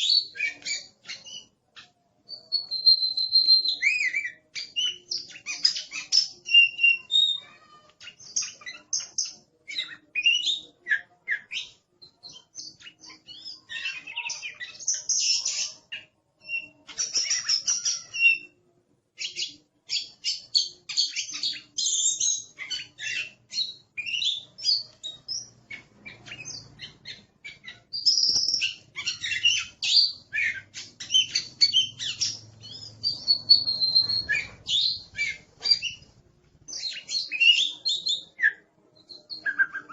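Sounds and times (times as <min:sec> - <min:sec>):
magpie-robin singing: 0:00.0 - 0:18.6, 0:19.2 - 0:39.9.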